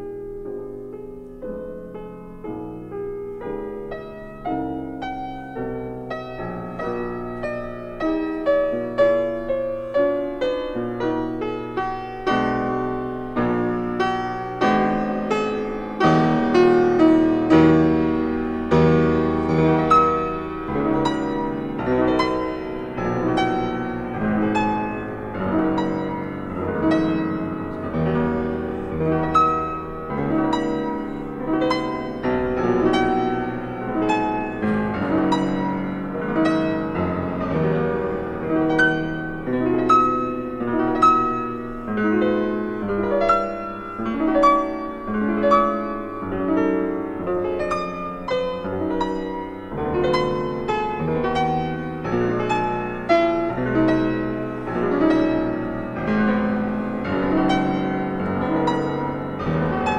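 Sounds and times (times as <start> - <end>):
piano music: 0.0 - 59.9.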